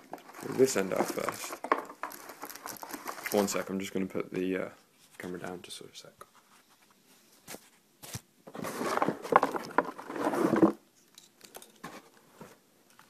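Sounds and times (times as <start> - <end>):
rustling handling noise: 0.0 - 4.1, 6.2 - 13.0.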